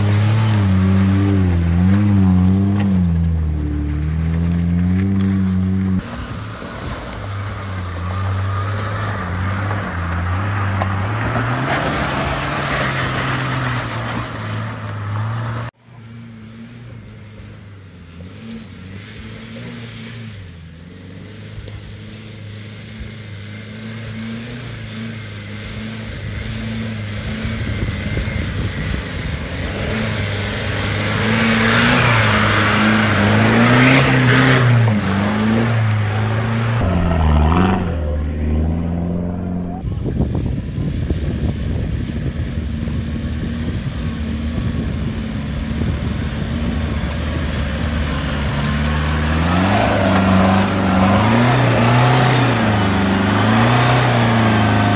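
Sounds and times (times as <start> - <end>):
off-road vehicle engines climbing: 0.0 - 54.9.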